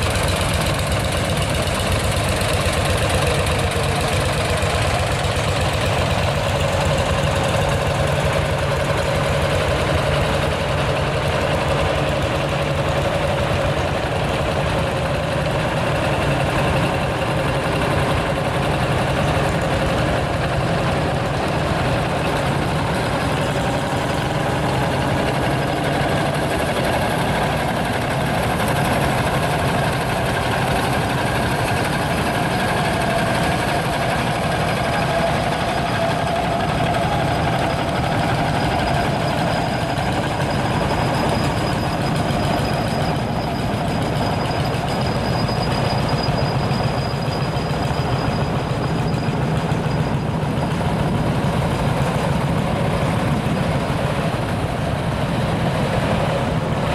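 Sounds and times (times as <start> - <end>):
diesel tractors chugging: 0.0 - 56.9.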